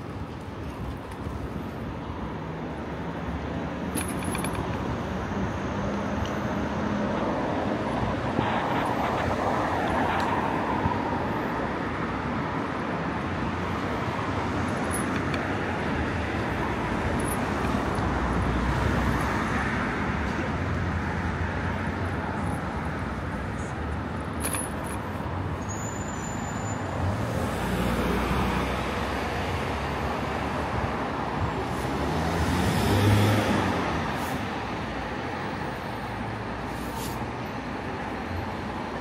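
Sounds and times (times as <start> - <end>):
street traffic: 0.0 - 39.0.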